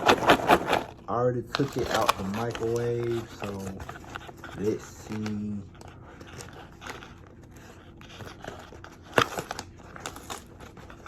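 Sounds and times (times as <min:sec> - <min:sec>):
paper popcorn bag crinkling: 0:00.0 - 0:11.0.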